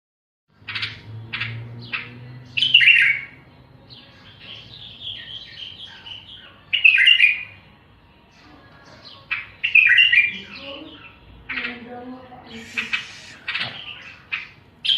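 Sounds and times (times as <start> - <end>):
songbird chirps and trills: 0.5 - 14.9.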